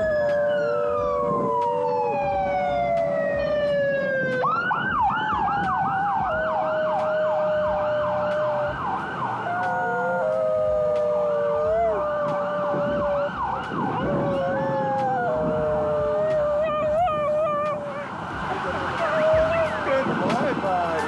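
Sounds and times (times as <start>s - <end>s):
dog howling: 0.0s - 3.6s, 6.7s - 20.0s
emergency siren wailing and yelping: 0.0s - 21.0s.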